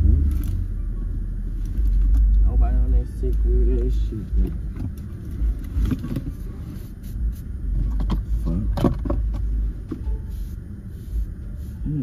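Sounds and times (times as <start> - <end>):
car idling rumble: 0.0 - 12.0.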